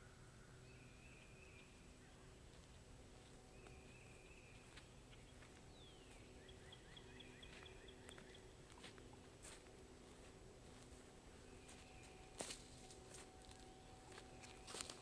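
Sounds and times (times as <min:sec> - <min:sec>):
faint songbirds singing: 0:00.0 - 0:15.0.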